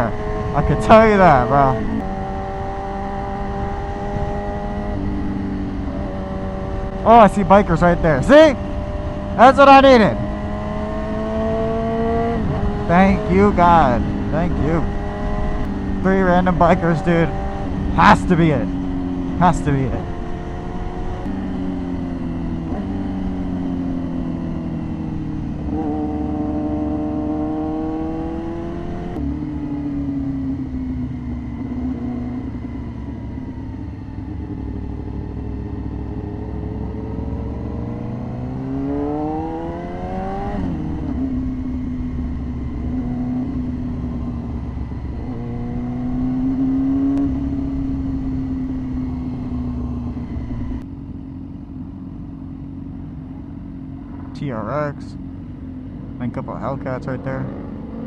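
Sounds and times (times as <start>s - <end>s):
sport motorcycle engine revving: 0.0s - 33.5s, 34.2s - 50.8s, 54.7s - 58.0s.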